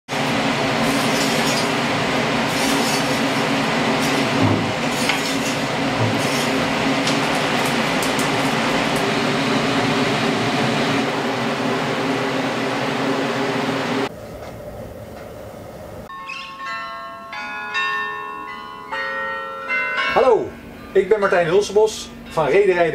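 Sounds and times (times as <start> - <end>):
machinery hum: 0.1 - 16.1, 20.3 - 22.9.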